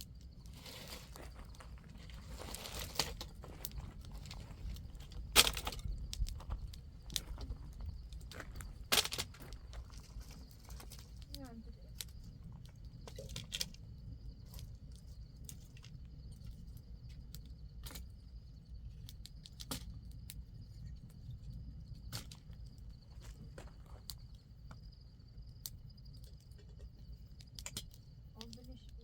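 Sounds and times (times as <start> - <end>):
low wind rumble: 0.0 - 28.4
crickets chirping: 0.0 - 29.0.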